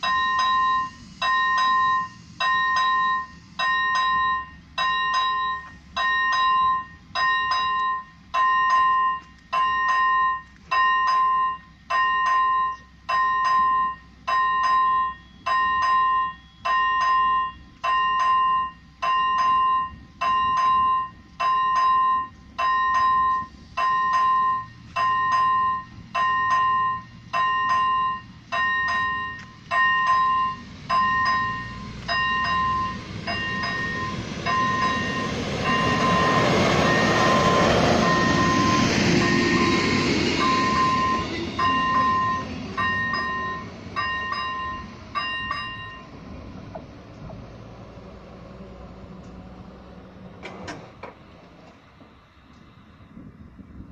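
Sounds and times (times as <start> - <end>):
level crossing bell ringing: 0.0 - 46.1
approaching diesel railcar: 0.0 - 53.9.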